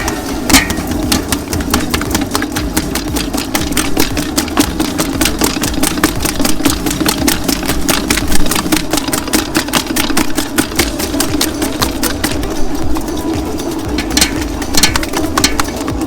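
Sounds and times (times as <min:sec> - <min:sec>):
electric mixer motor hum: 0:00.0 - 0:16.0
rapid regular clicking: 0:00.0 - 0:16.0.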